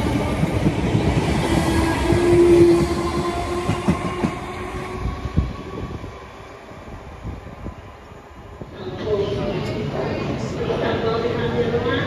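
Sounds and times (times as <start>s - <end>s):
train wheels rumbling on rails: 0.0s - 11.9s
electric train hum: 0.0s - 12.0s.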